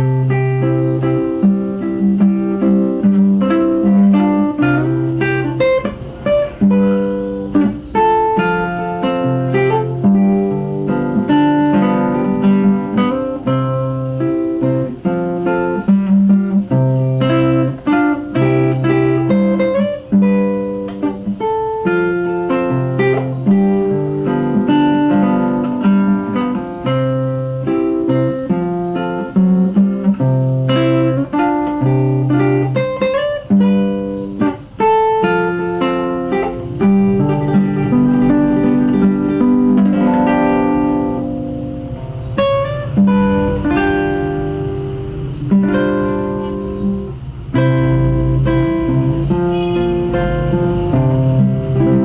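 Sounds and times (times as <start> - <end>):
fingerpicked classical guitar: 0.0 - 52.0.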